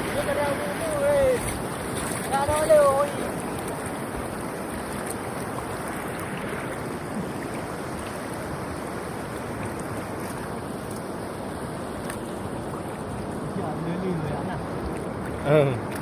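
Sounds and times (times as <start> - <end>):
ocean surf on beach: 0.0 - 16.0.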